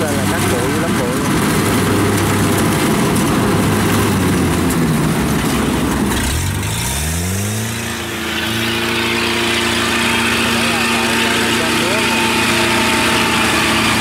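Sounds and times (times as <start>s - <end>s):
combine harvester diesel engine: 0.0s - 14.0s.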